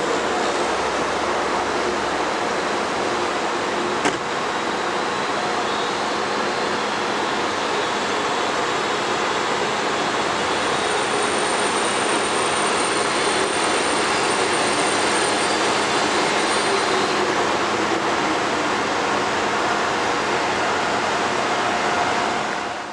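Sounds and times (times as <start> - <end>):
electric train rushing hiss: 0.0 - 22.8.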